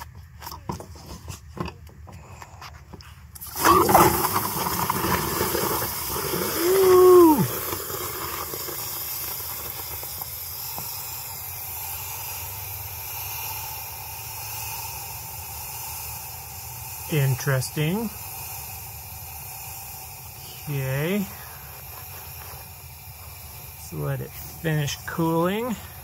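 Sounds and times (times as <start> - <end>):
hissing steam: 3.4 - 26.0.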